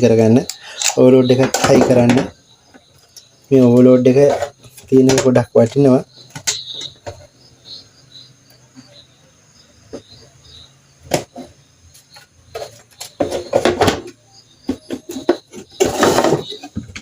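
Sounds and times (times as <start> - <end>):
faint high chirps: 0.0 - 17.0.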